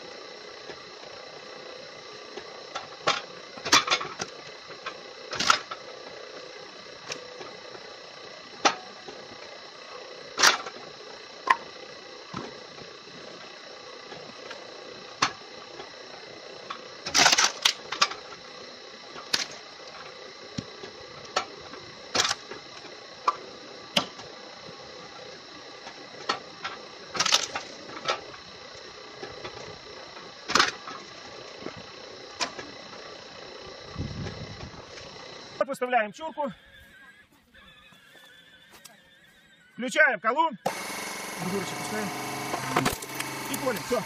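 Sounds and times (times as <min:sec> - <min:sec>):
firewood processor humming: 0:00.0 - 0:44.0.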